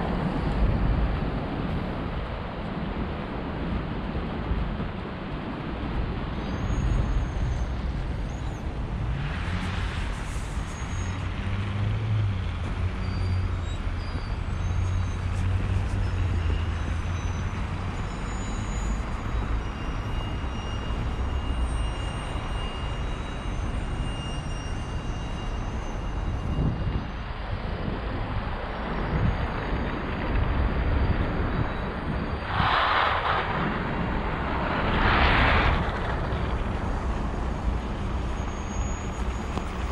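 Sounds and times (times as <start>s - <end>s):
low rumble of passing vehicles: 0.0s - 39.9s.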